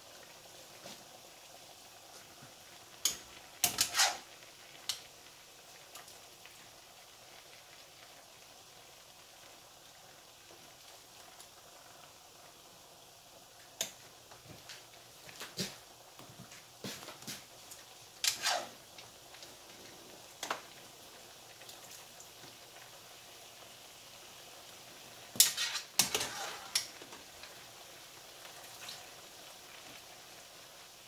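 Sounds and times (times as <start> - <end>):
sauce simmering with pops: 0.0 - 31.0.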